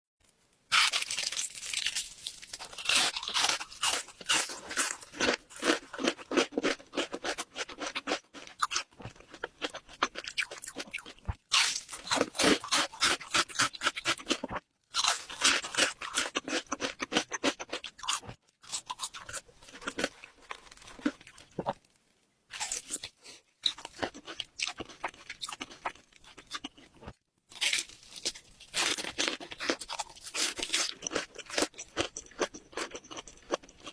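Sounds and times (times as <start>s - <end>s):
crunching crisp food: 0.2s - 33.9s.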